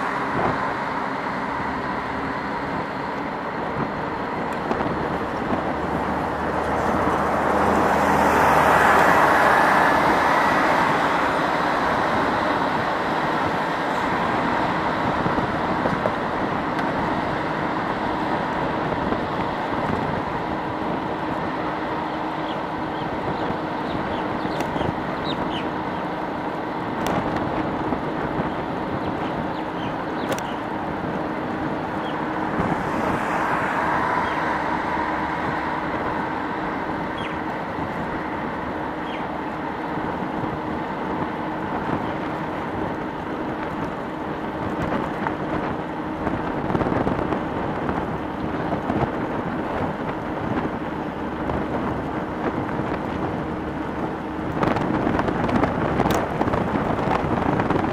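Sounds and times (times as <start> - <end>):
wind and road noise: 0.0 - 57.9.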